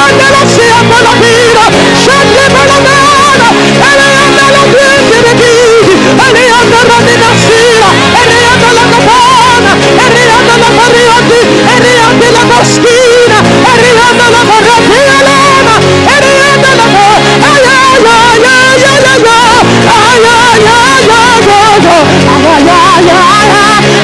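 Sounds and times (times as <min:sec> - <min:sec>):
live gospel worship music: 0:00.0 - 0:24.0.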